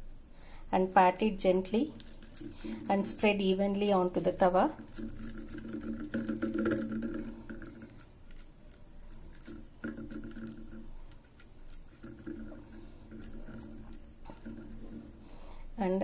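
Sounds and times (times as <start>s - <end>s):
low steady hum: 0.0s - 16.0s
fingers patting dough: 0.7s - 15.4s.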